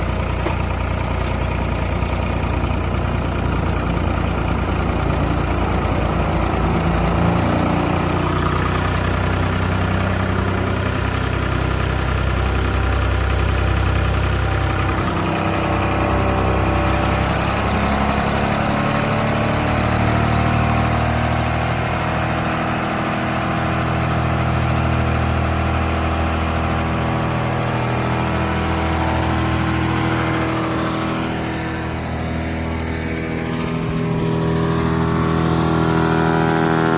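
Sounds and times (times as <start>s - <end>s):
wood chipper engine running: 0.0s - 36.9s.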